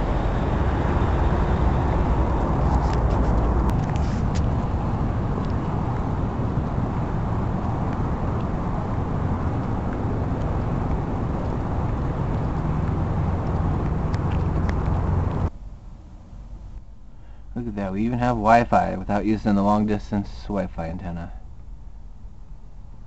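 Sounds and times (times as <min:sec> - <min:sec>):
low hum: 0:00.0 - 0:23.0
rumble of vehicle engines and traffic: 0:00.0 - 0:23.0.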